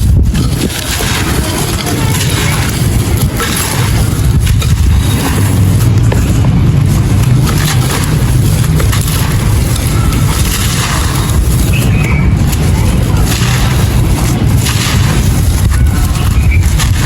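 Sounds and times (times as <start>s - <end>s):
concrete pot being crushed: 0.0s - 17.0s
low rumble: 0.0s - 17.0s.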